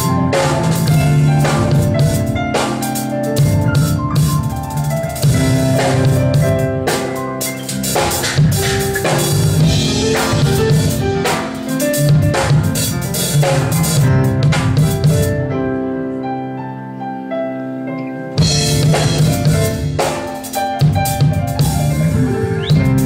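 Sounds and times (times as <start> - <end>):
drum kit beating: 0.0 - 15.8, 18.3 - 23.0
sustained keyboard chords: 0.0 - 23.0.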